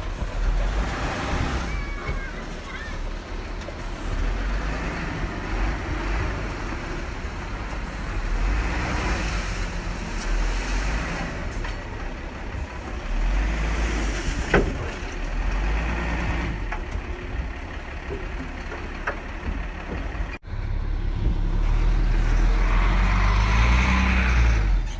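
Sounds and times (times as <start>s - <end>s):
bulldozer engine rumbling: 0.0s - 24.9s.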